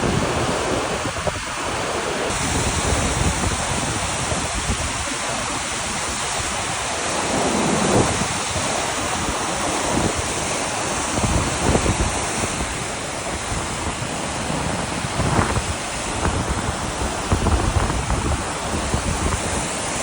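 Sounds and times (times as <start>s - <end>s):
floodwater roaring through locks: 0.0s - 20.0s
wind buffeting microphone: 0.0s - 20.0s.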